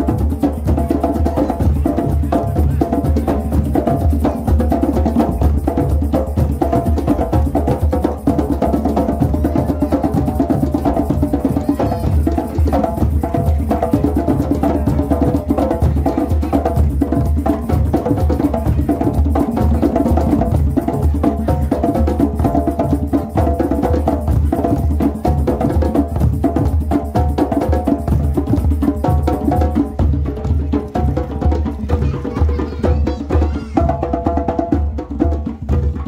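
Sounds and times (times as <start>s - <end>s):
djembe hand drums: 0.0s - 36.0s.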